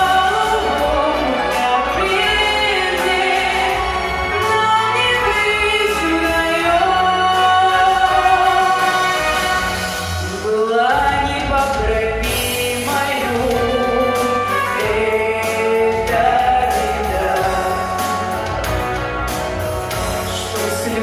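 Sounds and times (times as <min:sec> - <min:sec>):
musical accompaniment: 0:00.0 - 0:21.0
person singing: 0:00.0 - 0:21.0.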